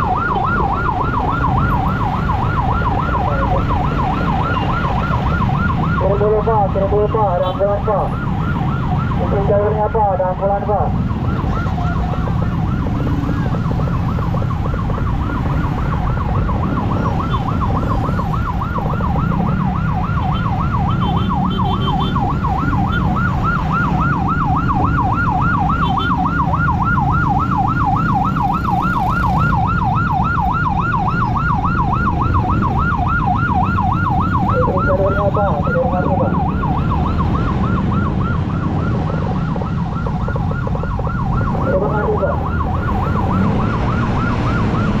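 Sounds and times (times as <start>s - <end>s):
emergency siren yelping: 0.0s - 45.0s
motorcycle engines rumbling: 0.0s - 45.0s
traffic noise: 0.0s - 45.0s.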